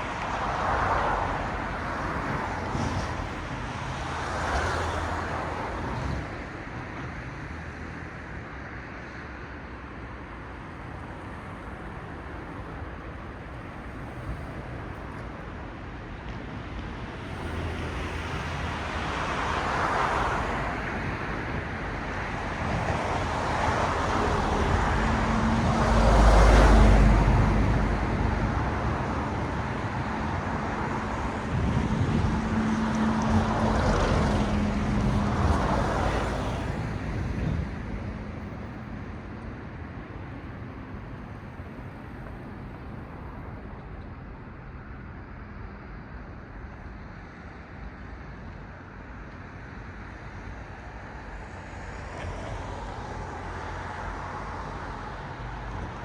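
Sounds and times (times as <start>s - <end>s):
cars passing on road: 0.0s - 56.0s
steady engine hum: 10.7s - 56.0s.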